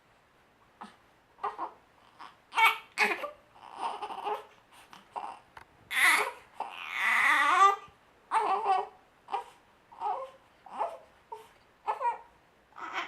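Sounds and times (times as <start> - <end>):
baby babbling and crying: 1.4 - 4.5, 5.1 - 13.0.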